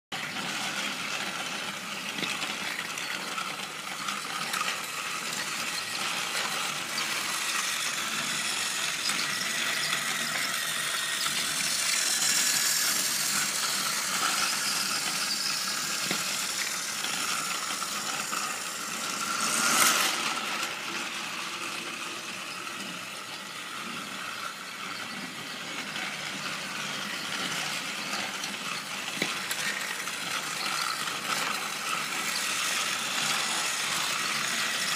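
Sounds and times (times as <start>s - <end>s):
toy train clatter: 0.2s - 34.9s
toy train motors whirring: 0.2s - 34.9s.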